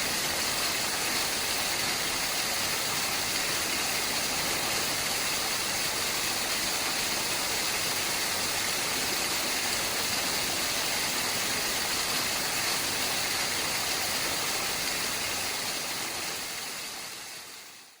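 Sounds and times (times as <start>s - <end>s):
waterfall roaring: 0.0s - 17.9s.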